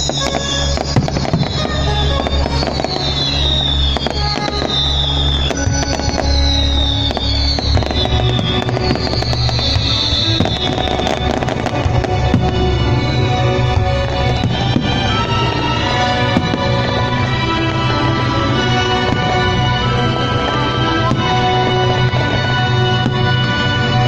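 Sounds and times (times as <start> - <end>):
fireworks bangs and crackles: 0.0 - 24.0
music playing: 0.0 - 24.0.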